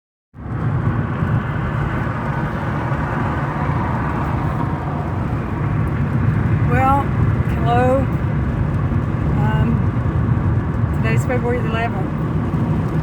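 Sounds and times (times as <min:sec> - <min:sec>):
car road and engine rumble: 0:00.4 - 0:13.0.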